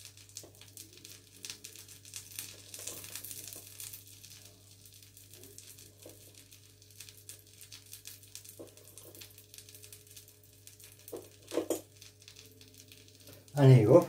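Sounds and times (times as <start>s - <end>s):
hot oil crackling in frying pan: 0.0s - 14.0s.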